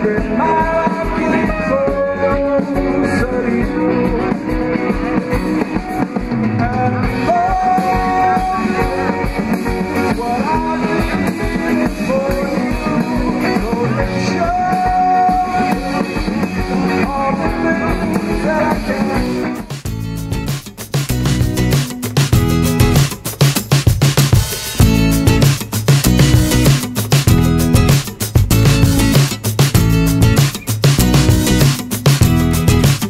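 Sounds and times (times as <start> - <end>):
rock music with singer: 0.0 - 33.0.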